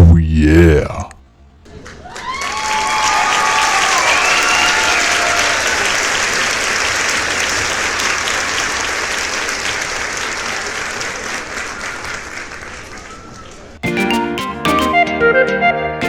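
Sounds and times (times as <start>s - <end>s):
crowd applause: 1.7s - 14.9s.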